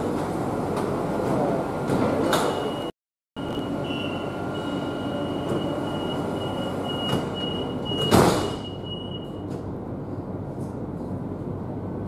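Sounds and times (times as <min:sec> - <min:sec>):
train hum: 0:00.0 - 0:02.7, 0:03.4 - 0:08.0, 0:09.3 - 0:12.0.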